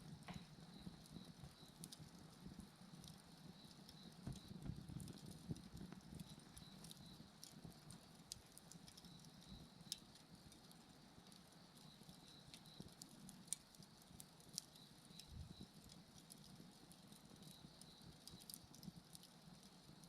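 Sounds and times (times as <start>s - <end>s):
faint insect chirping: 0.0s - 20.0s
wood fire crackling: 0.0s - 20.0s.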